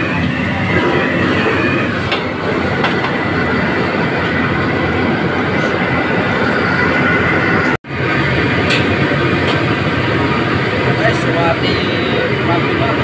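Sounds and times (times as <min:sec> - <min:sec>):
gas wok burner rushing: 0:00.0 - 0:13.0.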